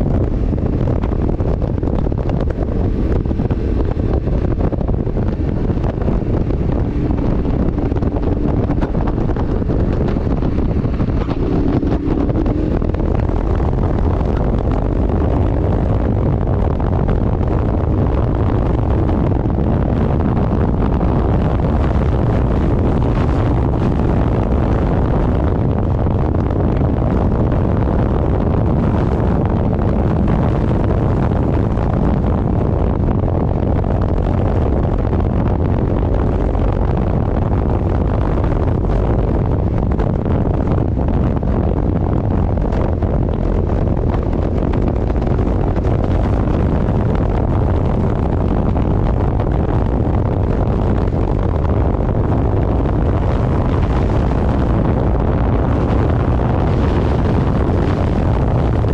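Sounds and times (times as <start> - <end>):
road and engine rumble: 0.0 - 58.9
wind buffeting microphone: 0.0 - 58.9.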